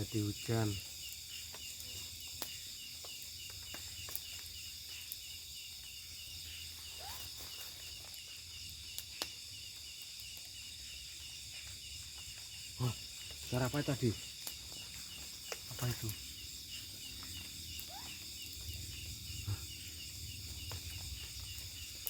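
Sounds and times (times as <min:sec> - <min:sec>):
cricket-like chirping: 0:00.0 - 0:22.0
insects buzzing: 0:00.0 - 0:22.0.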